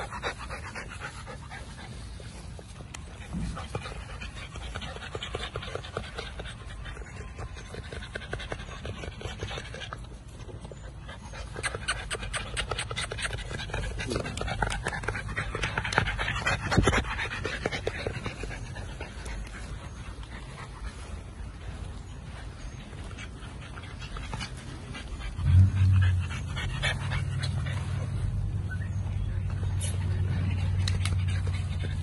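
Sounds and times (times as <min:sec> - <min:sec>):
puppy panting: 0:00.0 - 0:32.0.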